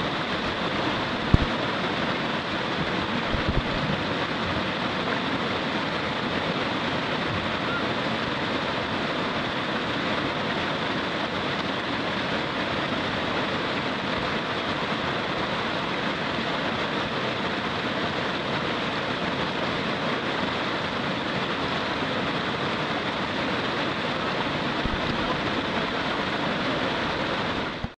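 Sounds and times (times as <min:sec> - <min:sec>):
whitewater rapids rushing: 0:00.0 - 0:27.9.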